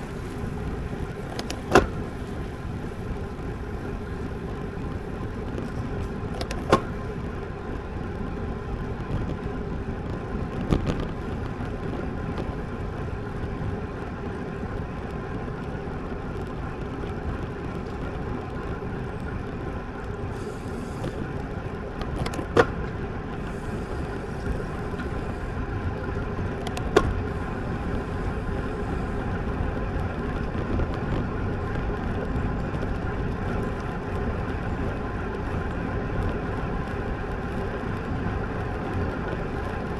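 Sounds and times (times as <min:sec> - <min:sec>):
road and wind noise of bike: 0:00.0 - 0:39.9.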